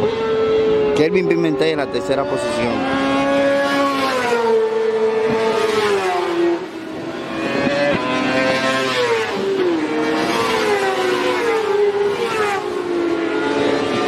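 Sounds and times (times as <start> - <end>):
racing motorcycles at high revs: 0.0 - 14.0.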